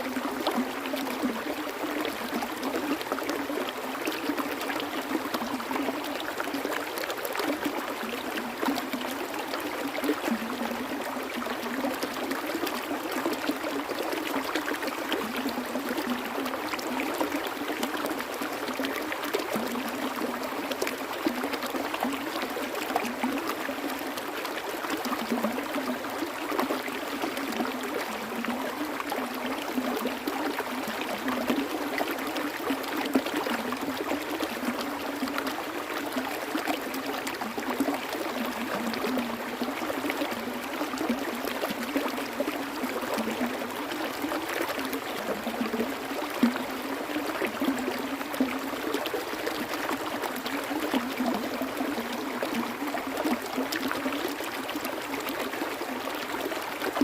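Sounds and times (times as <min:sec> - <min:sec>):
water bubbling and gurgling: 0:00.0 - 0:57.0.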